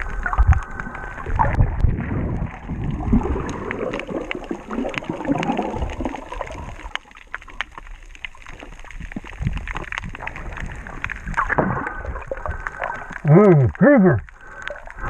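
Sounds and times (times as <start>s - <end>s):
muffled underwater rumble: 0.0s - 15.0s
sharp clicks and crackles: 0.0s - 15.0s.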